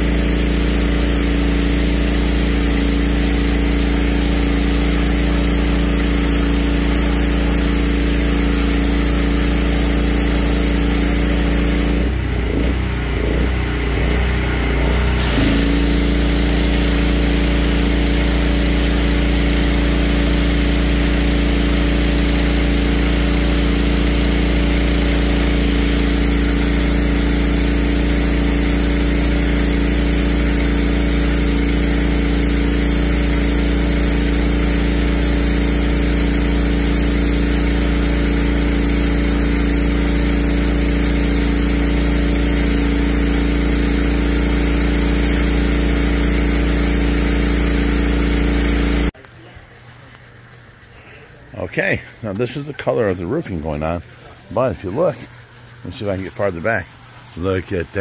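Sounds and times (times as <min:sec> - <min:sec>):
water jet hissing on concrete: 0:00.0 - 0:50.3, 0:51.3 - 0:58.0
pressure washer hum: 0:00.0 - 0:58.0.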